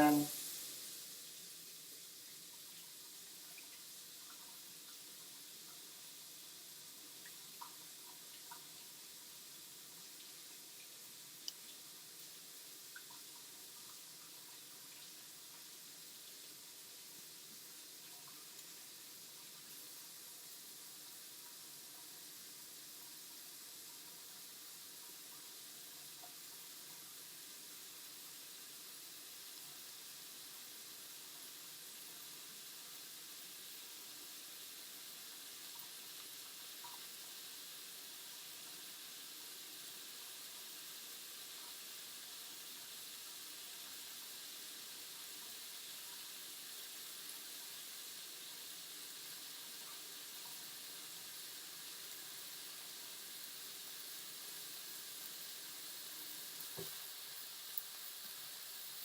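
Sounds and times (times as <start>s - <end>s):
meat sizzling in a frying pan: 0.0s - 59.0s.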